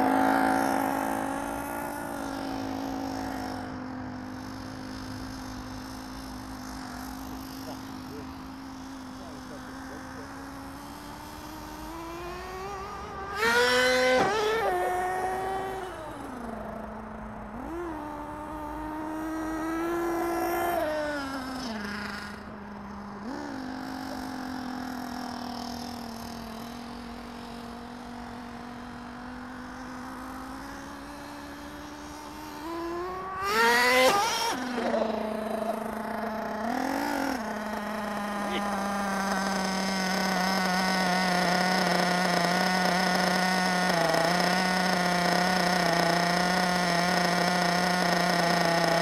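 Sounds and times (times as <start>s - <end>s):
radio-controlled truck motor revving: 0.0s - 49.0s.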